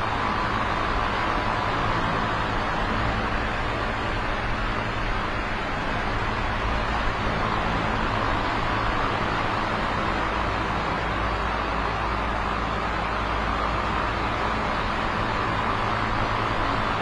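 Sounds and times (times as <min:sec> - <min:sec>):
electric fan whooshing: 0:00.0 - 0:17.0
low fan hum: 0:00.0 - 0:17.0.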